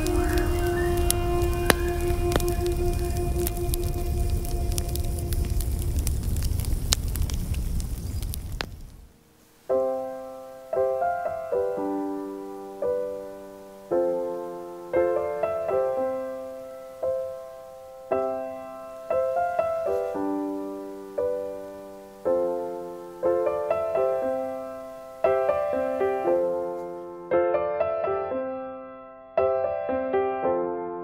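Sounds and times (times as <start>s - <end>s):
slow solo piano chords: 0.0s - 6.5s, 9.6s - 31.0s.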